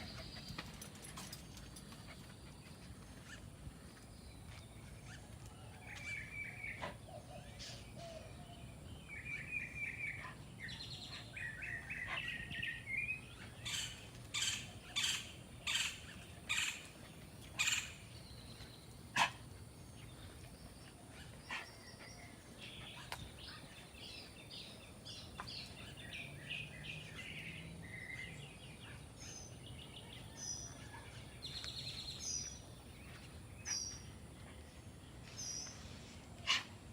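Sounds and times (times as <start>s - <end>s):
birds chirping and trilling: 0.0s - 36.9s.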